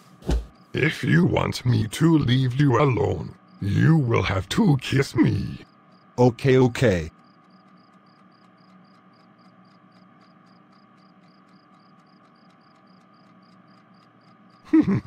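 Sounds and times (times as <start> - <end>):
low steady hum: 0.0 - 15.0
crickets chirping: 0.4 - 15.0.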